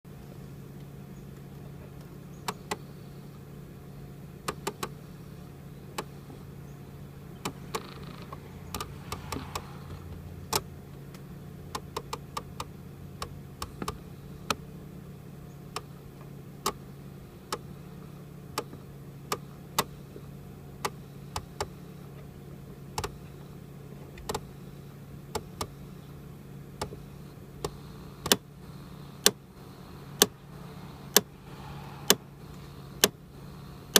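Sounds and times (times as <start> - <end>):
steady low hum: 0.1 - 33.9
sharp clicking inside dashboard: 0.7 - 33.9.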